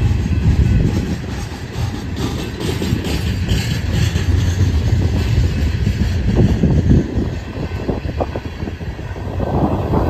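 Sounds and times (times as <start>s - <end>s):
freight train wheels rumbling: 0.0s - 10.0s.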